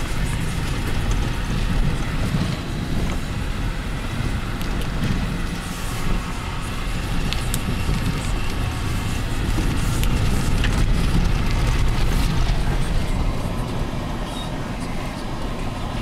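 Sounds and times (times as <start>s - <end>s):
car driving on gravel: 0.0s - 16.0s.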